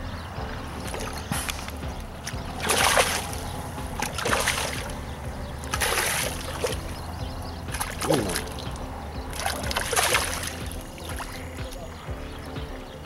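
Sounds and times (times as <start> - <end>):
fish splashing at water surface: 0.6 - 11.8.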